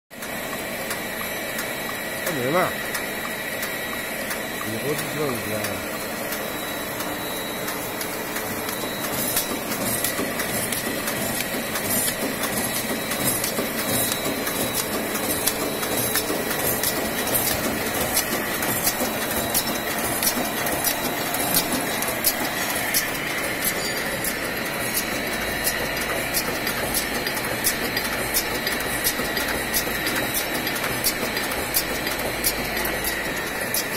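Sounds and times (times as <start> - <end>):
machine mechanical hum with whine: 0.2 - 33.9
sharp mechanical clack: 2.9 - 33.9.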